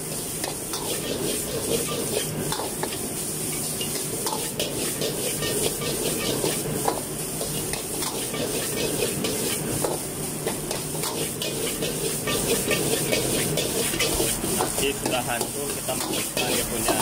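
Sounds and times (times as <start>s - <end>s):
rice sizzling in a wok: 0.0s - 17.0s
metal ladle scraping a pan: 0.7s - 3.0s, 3.6s - 10.0s, 10.7s - 17.0s.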